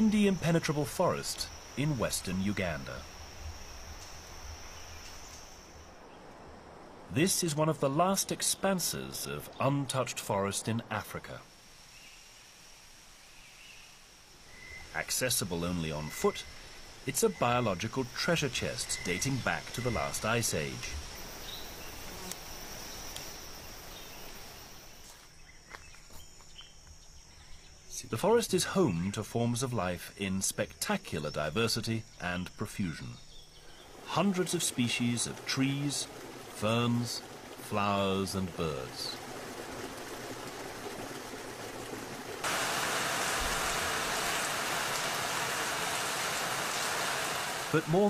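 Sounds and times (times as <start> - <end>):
insects chirring: 0.0 - 9.2, 11.3 - 48.0
rushing water: 0.0 - 25.4, 33.6 - 48.0.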